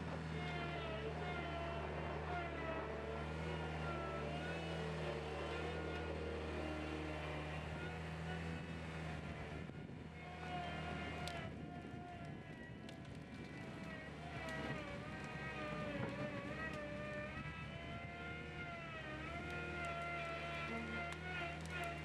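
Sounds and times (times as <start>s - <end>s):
loader engine humming: 0.0s - 22.0s.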